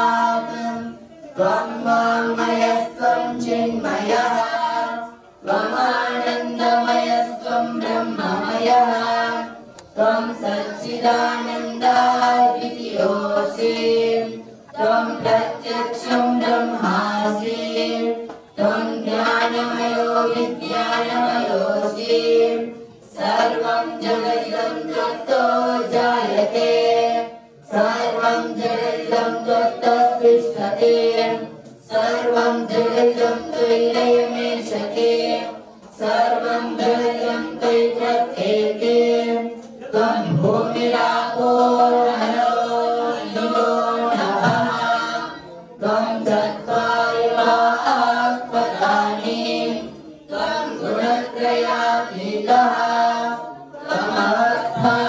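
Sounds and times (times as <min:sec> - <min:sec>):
men singing a chant: 0:00.0 - 0:55.0.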